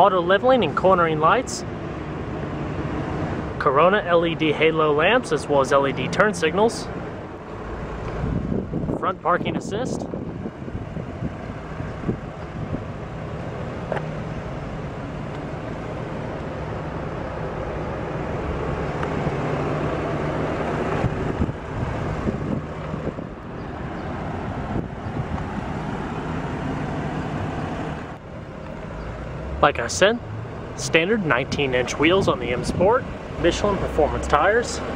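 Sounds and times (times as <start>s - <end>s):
car engine humming: 0.0s - 34.9s
road traffic: 0.0s - 34.9s.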